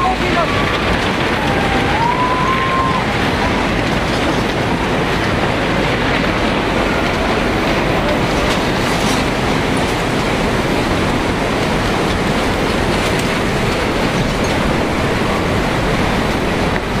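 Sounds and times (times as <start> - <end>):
floodwater rushing and churning: 0.0 - 17.0.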